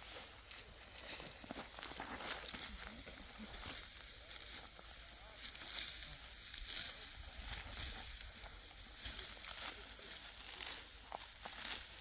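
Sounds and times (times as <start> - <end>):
dry wheat stalks rustling: 0.0 - 12.0.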